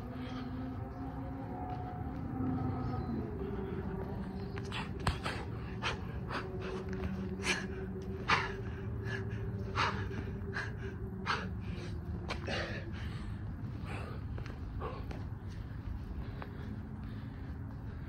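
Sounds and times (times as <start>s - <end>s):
low hum: 0.0s - 18.0s
man breathing hard: 0.0s - 18.0s.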